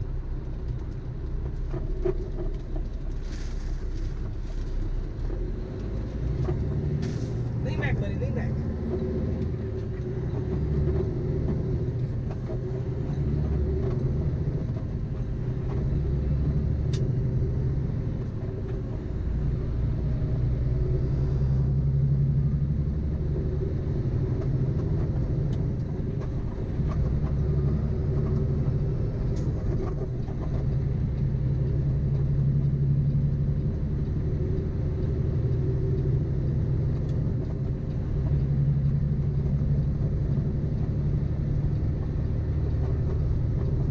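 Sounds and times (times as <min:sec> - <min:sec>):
truck diesel engine driving: 0:00.0 - 0:43.9.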